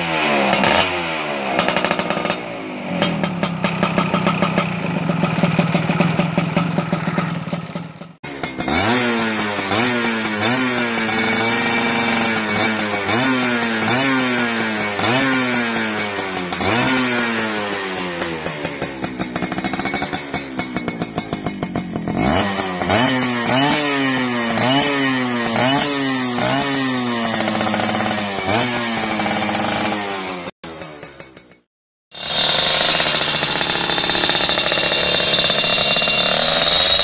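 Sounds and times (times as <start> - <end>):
two-stroke engine revving: 0.0 - 37.0.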